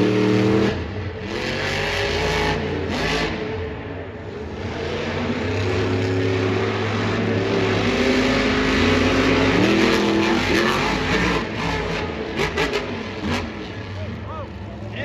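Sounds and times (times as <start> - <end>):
monster truck engines racing: 0.0 - 15.0.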